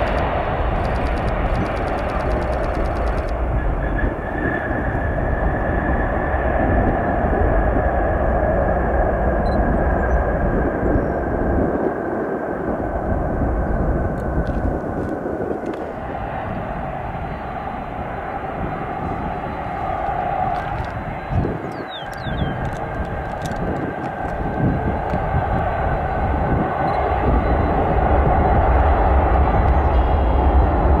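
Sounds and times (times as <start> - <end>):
jet engines rumbling with high whine: 0.0 - 31.0.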